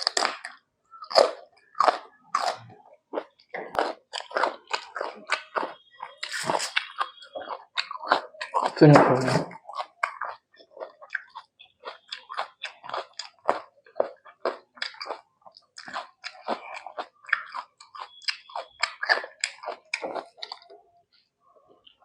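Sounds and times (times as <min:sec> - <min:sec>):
person chewing with mouth smacks: 0:00.0 - 0:20.8.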